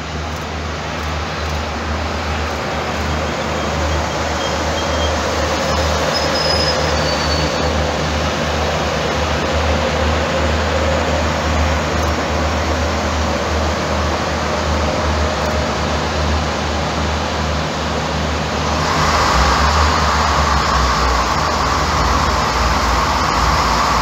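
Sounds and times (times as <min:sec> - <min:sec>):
diesel engine rumble: 0:00.0 - 0:24.0
wheel and rail noise: 0:00.0 - 0:24.0.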